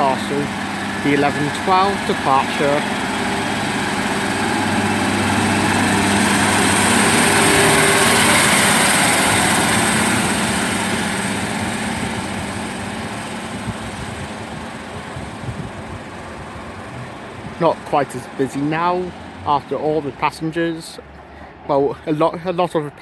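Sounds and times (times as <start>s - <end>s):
diesel train engine running hard: 0.0s - 23.0s.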